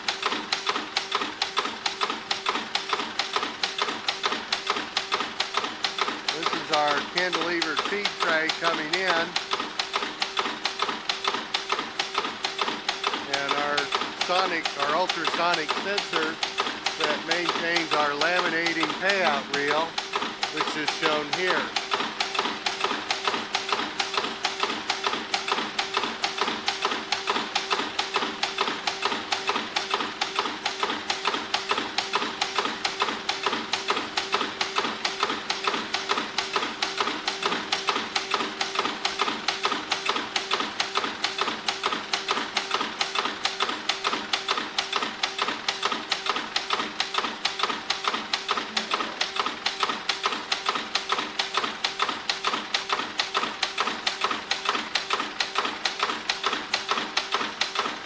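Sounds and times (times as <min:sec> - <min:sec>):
press strokes clattering: 0:00.0 - 0:58.0
steady machine hum: 0:00.0 - 0:58.0.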